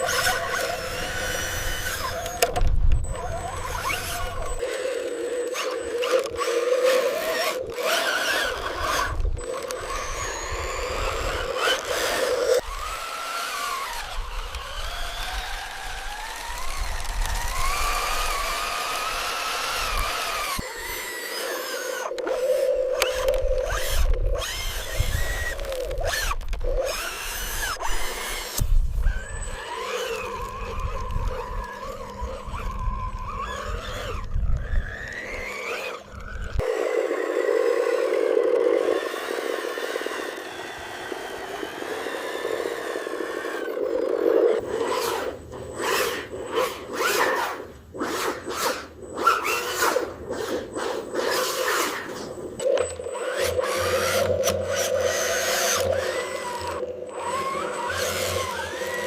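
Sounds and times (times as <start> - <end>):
motor whine: 0.0 - 59.0.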